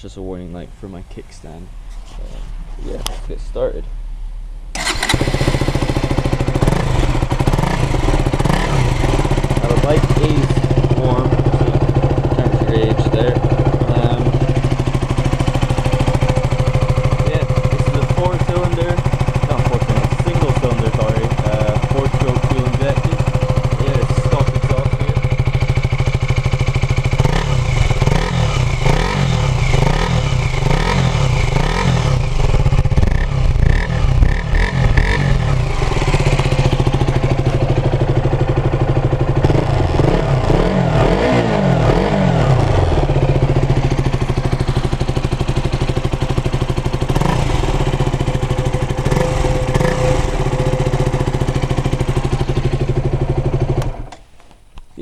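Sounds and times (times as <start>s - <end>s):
motorcycle engine idling and revving: 4.7s - 54.2s.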